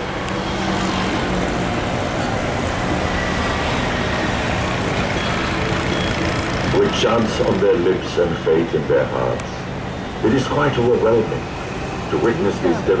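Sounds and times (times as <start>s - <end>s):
engine humming: 0.0s - 13.0s
street traffic: 0.0s - 13.0s.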